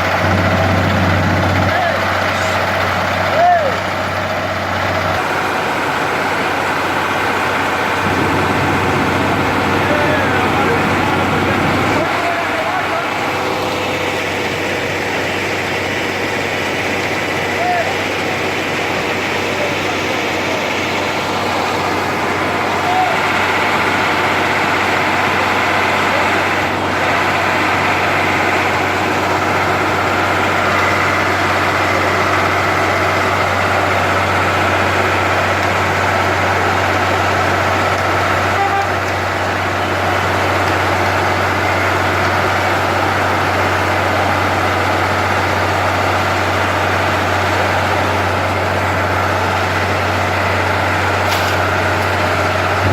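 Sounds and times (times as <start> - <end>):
heavy machinery engines running: 0.0 - 52.9.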